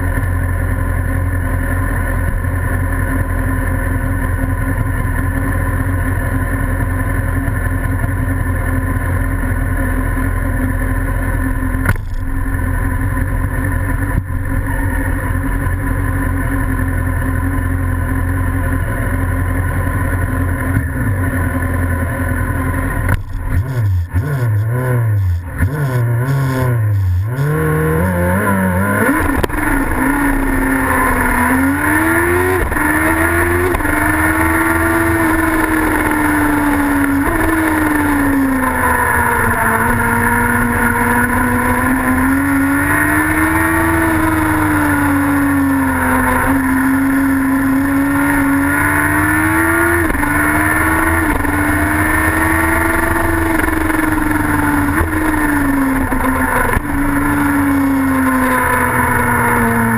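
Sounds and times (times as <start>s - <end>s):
sidecar engine idling and revving: 0.0s - 59.9s.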